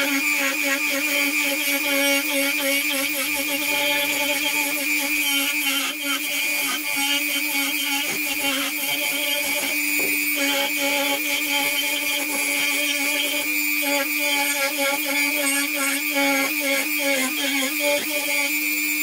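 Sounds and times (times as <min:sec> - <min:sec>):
bit cutting wood hiss: 0:00.0 - 0:19.0
rotary tool whining: 0:00.0 - 0:19.0.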